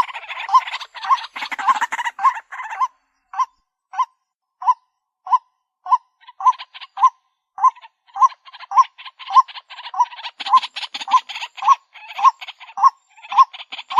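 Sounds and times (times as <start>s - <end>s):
harsh rasping bird chatter: 0.0s - 4.1s, 5.9s - 13.9s.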